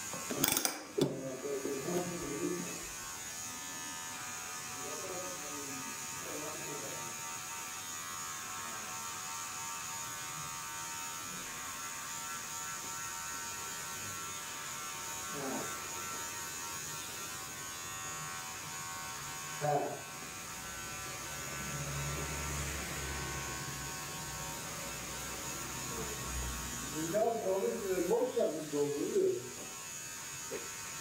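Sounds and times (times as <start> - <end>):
small motor buzzing: 0.0 - 31.0.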